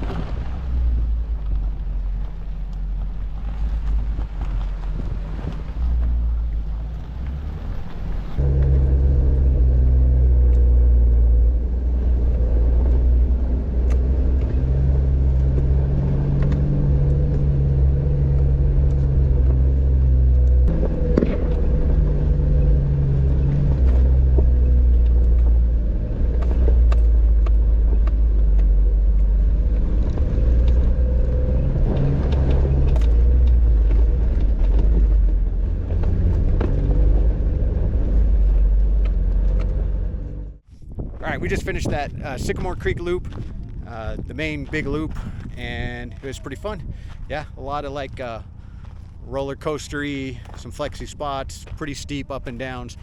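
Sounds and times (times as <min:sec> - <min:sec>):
car engine driving: 0:00.0 - 0:53.0.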